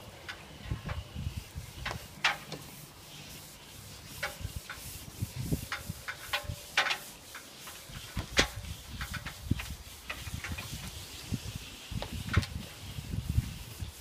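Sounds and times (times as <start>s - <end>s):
brush scraping and knocking on roof: 0.3s - 14.0s.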